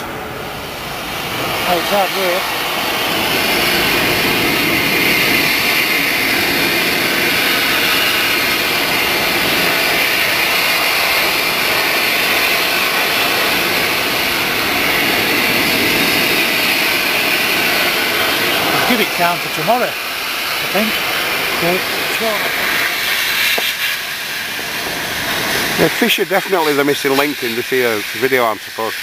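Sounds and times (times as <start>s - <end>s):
outboard motor running: 0.9s - 29.0s.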